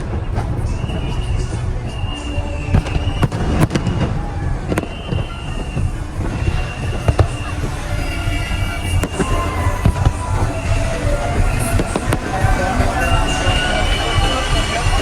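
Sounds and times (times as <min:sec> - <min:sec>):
rumble of firework bursts: 0:00.0 - 0:15.0
sharp firework bangs: 0:00.0 - 0:15.0
steady high tones: 0:00.0 - 0:15.0.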